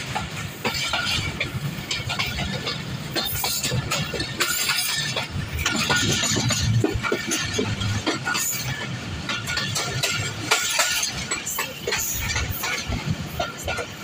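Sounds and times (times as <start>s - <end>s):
train wheels clattering over rails: 0.0s - 14.0s.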